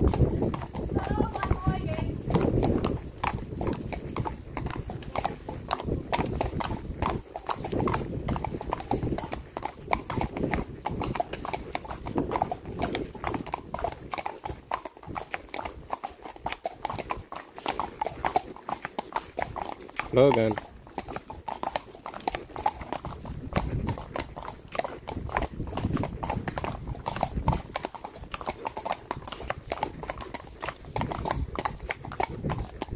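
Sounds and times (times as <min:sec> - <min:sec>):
hooves clip-clopping on asphalt: 0:00.0 - 0:32.9.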